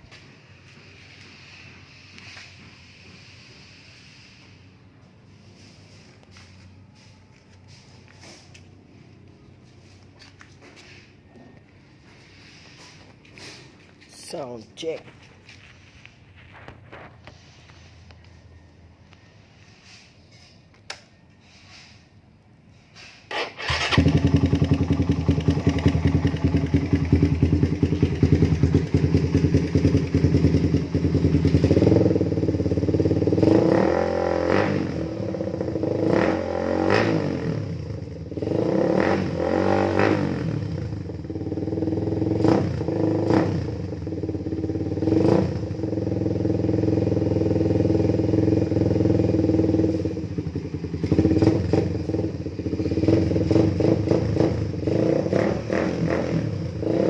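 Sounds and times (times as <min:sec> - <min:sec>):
motorcycle engine idling and revving: 0:00.0 - 0:20.2, 0:23.2 - 0:57.0.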